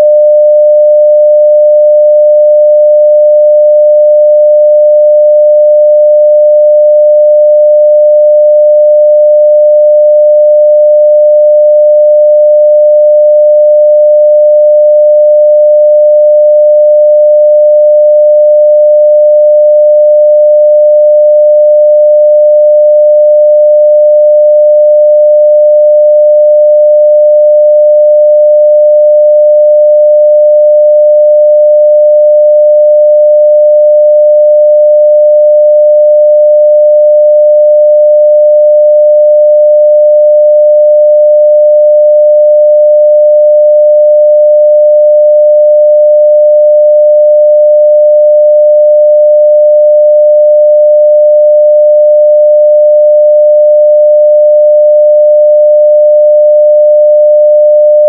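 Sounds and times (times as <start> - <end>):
sine-wave test tone: 0.0 - 58.0.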